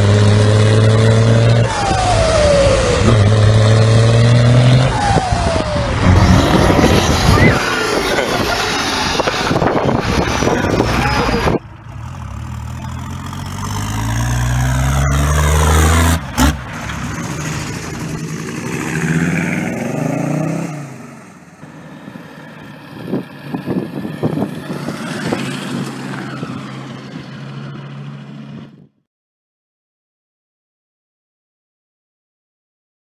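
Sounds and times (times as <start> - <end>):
diesel car engines revving: 0.0 - 28.9.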